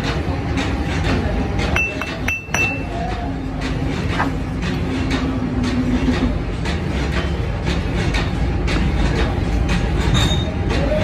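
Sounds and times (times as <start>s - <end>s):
factory machinery rumbling: 0.0s - 11.0s.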